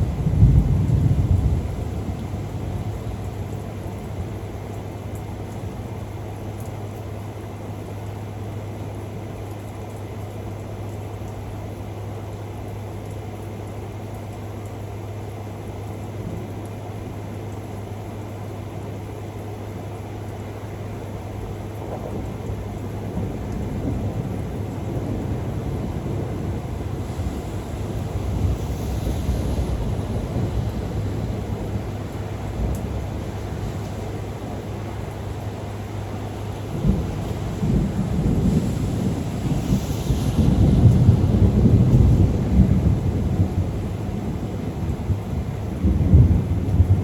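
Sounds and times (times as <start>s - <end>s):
low thunder rumble: 0.0s - 9.4s, 14.9s - 47.0s
steady rain: 0.0s - 47.0s.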